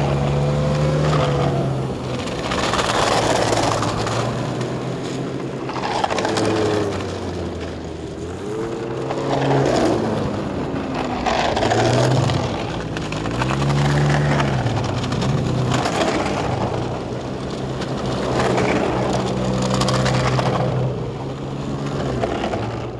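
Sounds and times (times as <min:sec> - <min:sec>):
snowmobile engines passing: 0:00.0 - 0:22.9.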